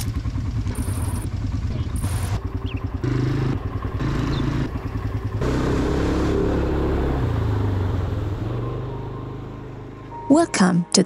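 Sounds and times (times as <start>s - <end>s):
atv engine running: 0.0s - 10.7s.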